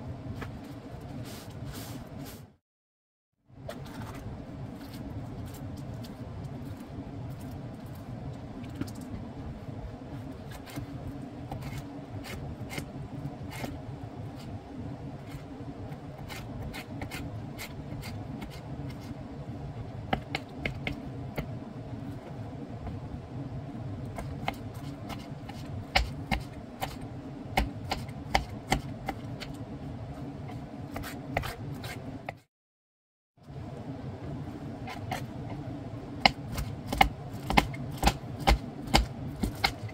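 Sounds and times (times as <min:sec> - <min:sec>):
steady low hum: 0:00.0 - 0:02.6, 0:03.4 - 0:32.5, 0:33.4 - 0:39.9.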